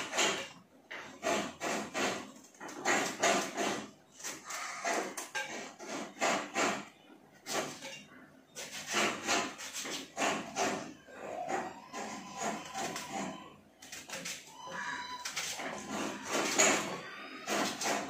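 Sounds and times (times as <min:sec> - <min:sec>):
knife scraping vegetable peel: 0:00.0 - 0:18.0.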